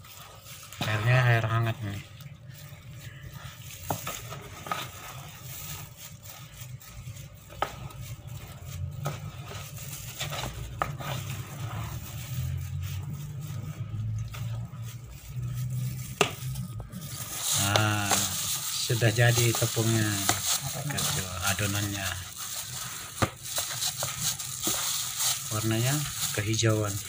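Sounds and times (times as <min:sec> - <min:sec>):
spatula scraping flour mixture: 0:00.0 - 0:27.0.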